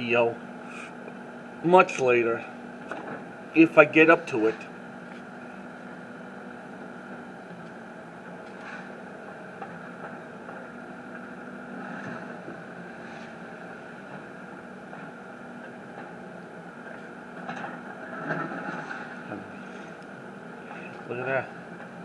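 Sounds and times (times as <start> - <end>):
machinery engine humming: 0.0 - 22.0.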